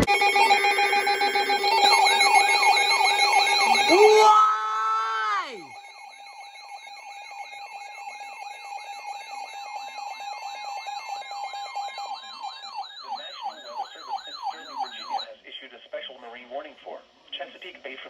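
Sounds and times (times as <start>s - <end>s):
electronic alarm falling sweep: 0.0s - 15.2s
high warbling tone: 0.0s - 15.2s
steady alarm tone: 0.0s - 15.2s.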